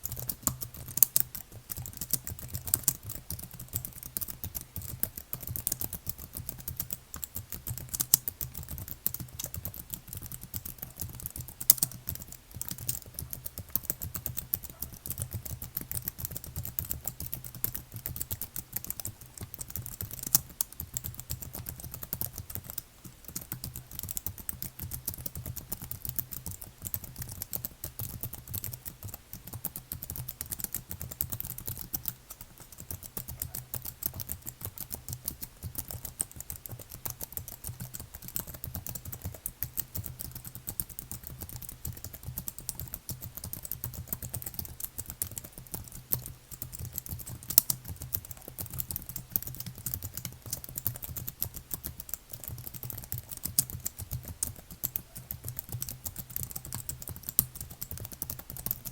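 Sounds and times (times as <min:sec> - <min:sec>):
fast typing on computer keyboard: 0:00.0 - 0:58.9.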